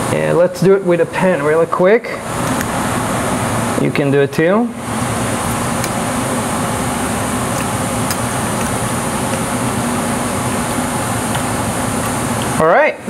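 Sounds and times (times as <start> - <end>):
mechanical hum with hiss: 0.0 - 13.0.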